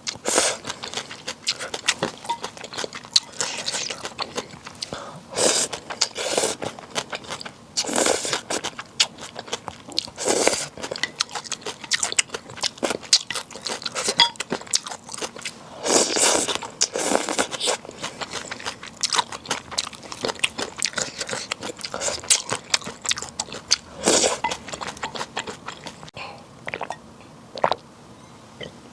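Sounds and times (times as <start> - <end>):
chewing with crunchy clicks: 0.0 - 5.0, 5.6 - 26.9.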